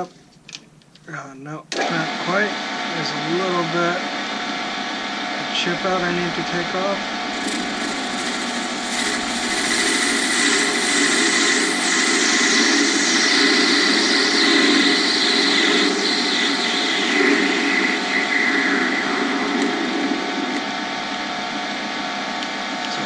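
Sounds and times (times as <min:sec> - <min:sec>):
lathe machine hum: 0:01.8 - 0:22.9.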